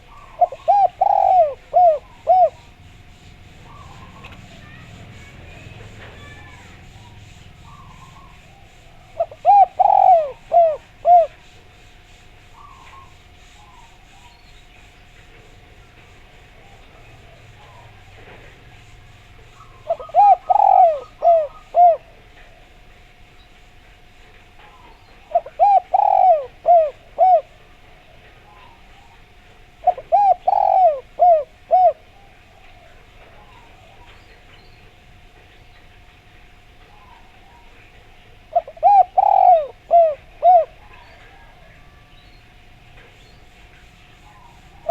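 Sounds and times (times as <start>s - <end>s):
dove cooing: 0.0s - 14.3s, 15.1s - 22.8s, 24.6s - 34.9s, 36.8s - 42.1s, 42.7s - 44.9s
faint steady hum: 0.0s - 44.9s.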